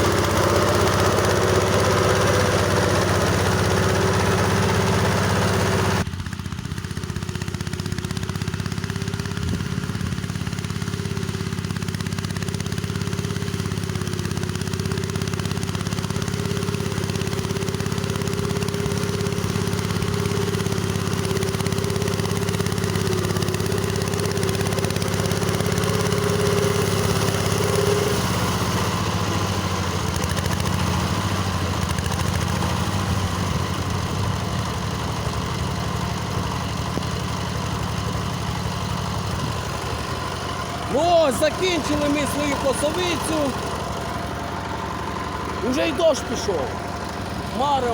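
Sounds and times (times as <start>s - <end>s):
mower engine running: 0.0s - 47.9s.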